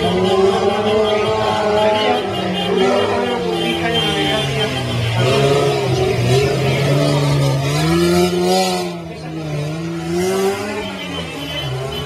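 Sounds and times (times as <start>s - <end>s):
engine revving hard: 0.0s - 12.0s.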